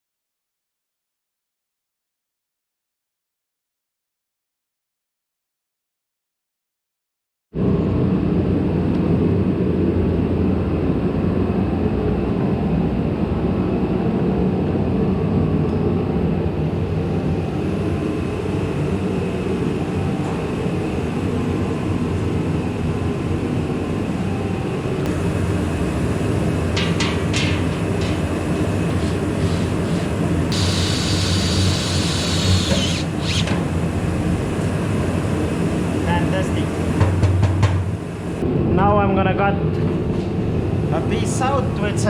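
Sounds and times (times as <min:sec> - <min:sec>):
machinery with low rumble: 0:07.6 - 0:42.0.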